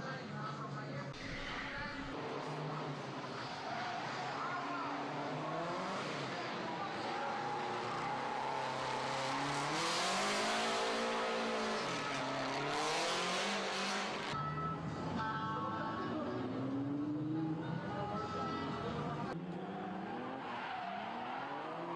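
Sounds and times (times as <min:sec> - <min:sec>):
racing car engine: 0:00.0 - 0:21.9
tyre and road noise: 0:01.2 - 0:15.1, 0:16.4 - 0:21.9.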